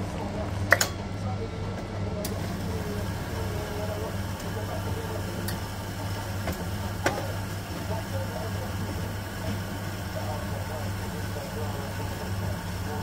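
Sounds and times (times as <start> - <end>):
coffee machine humming: 0.0 - 13.0.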